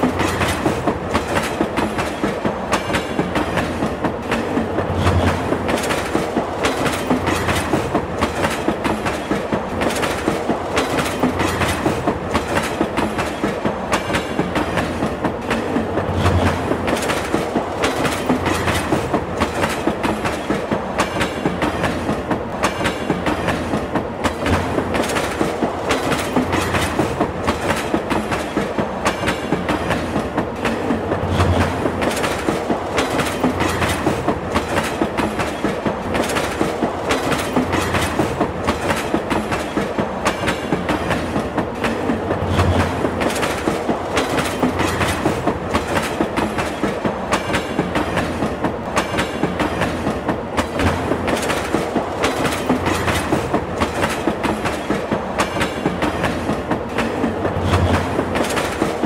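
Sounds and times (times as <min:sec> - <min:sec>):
train wheels clickety-clack: 0:00.0 - 0:59.0.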